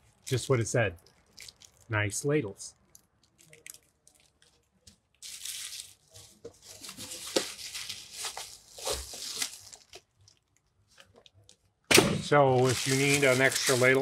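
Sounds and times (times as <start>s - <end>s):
plastic wrapping crinkling and tearing: 0.1s - 1.9s, 2.8s - 11.6s, 12.5s - 14.0s.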